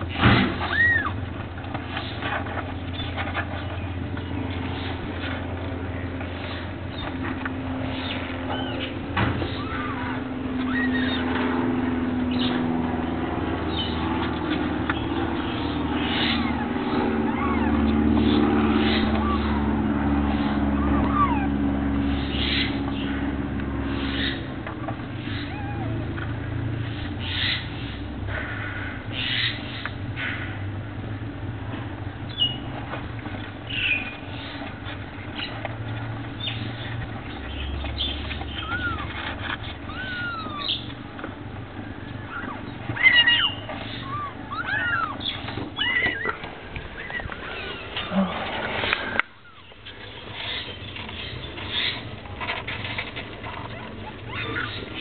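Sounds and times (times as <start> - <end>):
kittens mewing: 0.0 - 29.6, 36.3 - 51.1, 51.8 - 55.0
steady low rumble: 0.0 - 55.0.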